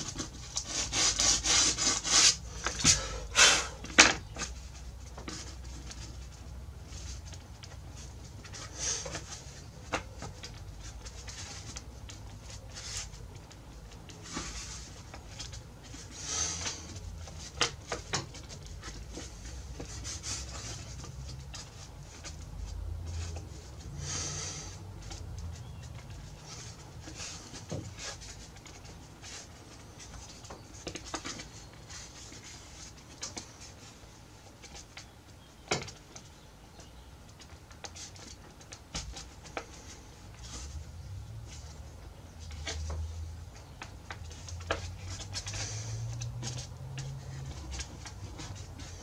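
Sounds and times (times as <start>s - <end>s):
faint rustling: 0.0s - 49.0s.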